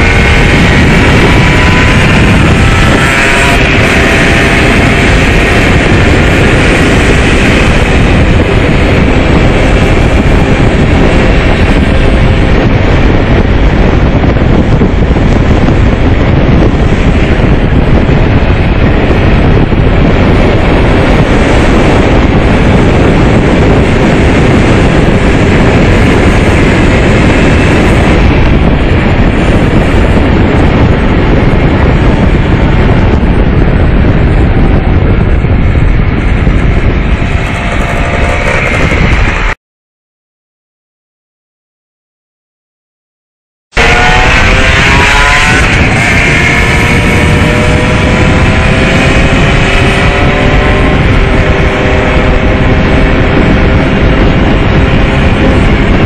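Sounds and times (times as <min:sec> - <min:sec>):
motorcycle engine whine: 0:00.0 - 0:39.6, 0:43.7 - 0:56.0
wind buffeting microphone: 0:00.0 - 0:39.6, 0:43.7 - 0:56.0.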